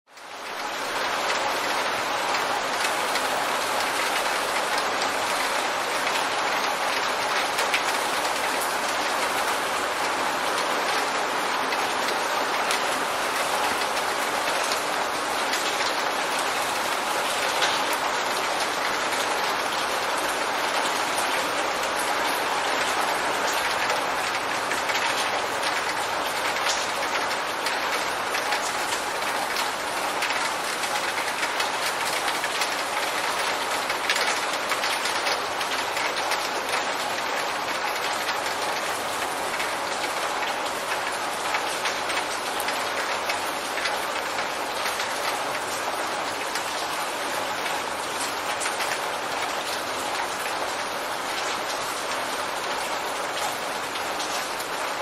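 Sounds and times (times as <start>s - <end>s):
heavy rain: 0.1s - 55.0s.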